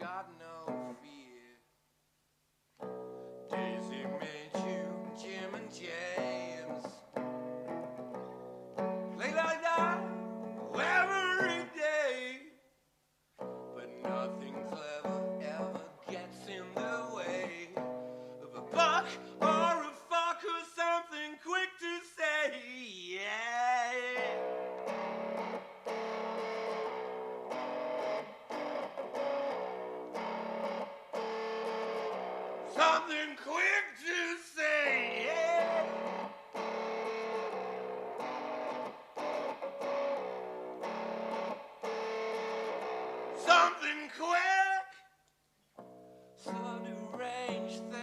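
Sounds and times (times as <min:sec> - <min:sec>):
guitar music: 0:00.0 - 0:01.0, 0:02.8 - 0:12.1, 0:13.4 - 0:20.3, 0:23.9 - 0:34.0, 0:34.6 - 0:44.7, 0:45.8 - 0:48.0.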